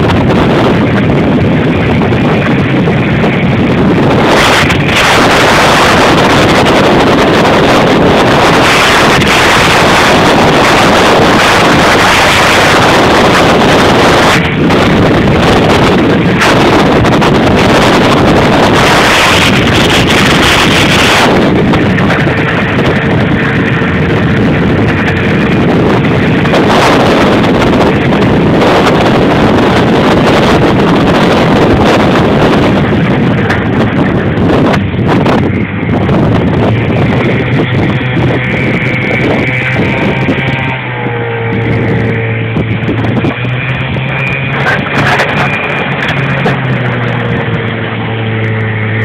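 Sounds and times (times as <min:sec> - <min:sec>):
outboard motor running: 0:00.0 - 0:49.0
wind buffeting microphone: 0:00.0 - 0:49.0.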